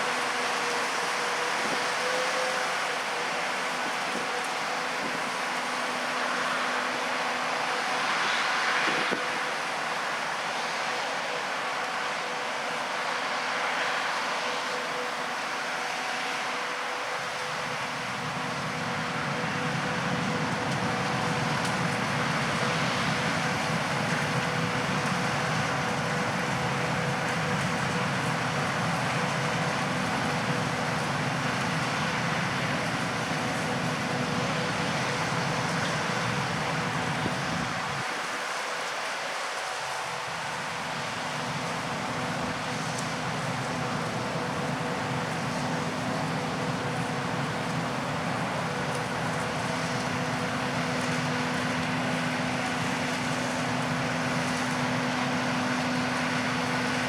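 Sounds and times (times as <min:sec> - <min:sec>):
harvesting machinery humming: 0:00.0 - 0:57.0.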